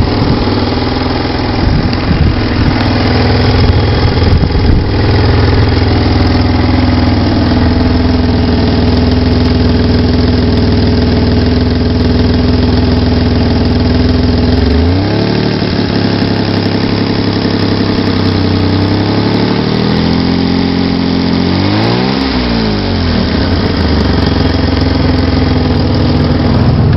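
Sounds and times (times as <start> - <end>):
car engine idling and revving: 0.0 - 26.9.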